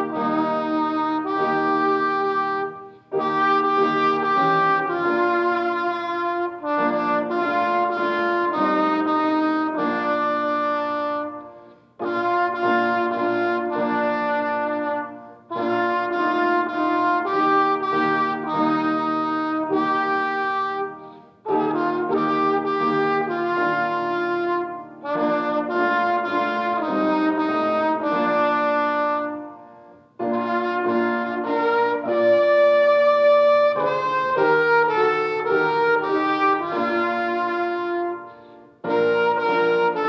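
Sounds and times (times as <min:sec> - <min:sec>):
organ chords: 0:00.0 - 0:40.0
trumpet playing slow melody: 0:00.0 - 0:40.0.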